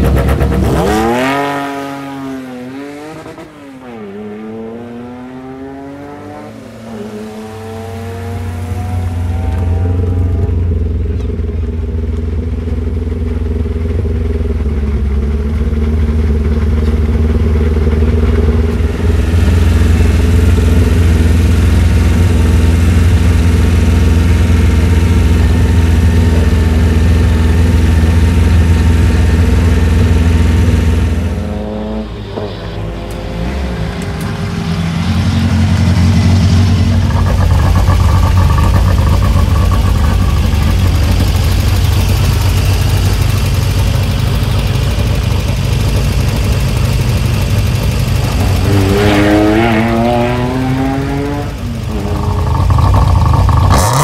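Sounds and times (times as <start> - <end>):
car engine running: 0.0 - 2.1, 8.1 - 54.0.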